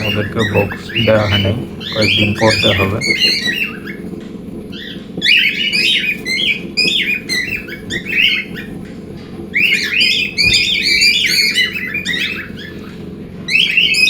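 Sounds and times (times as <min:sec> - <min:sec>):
cockatiels chirping and squawking: 0:00.0 - 0:14.0
steady low hum: 0:00.0 - 0:14.0.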